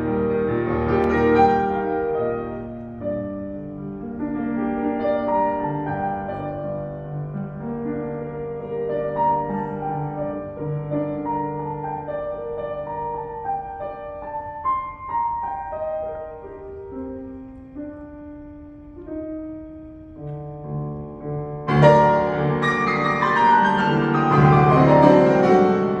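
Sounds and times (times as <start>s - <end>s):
classical piano piece: 0.0s - 26.0s.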